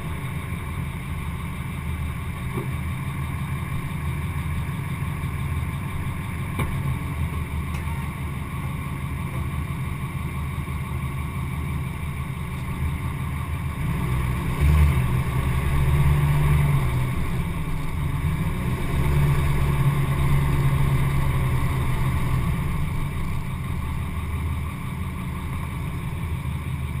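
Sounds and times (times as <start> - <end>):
pickup truck engine running: 0.0 - 27.0.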